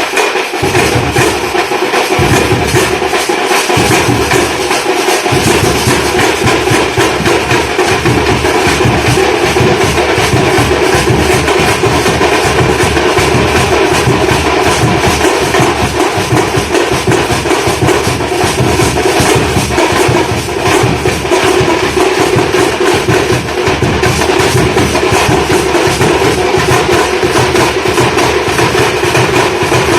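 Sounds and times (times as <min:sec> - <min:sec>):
fast loud drumming: 0:00.0 - 0:29.9.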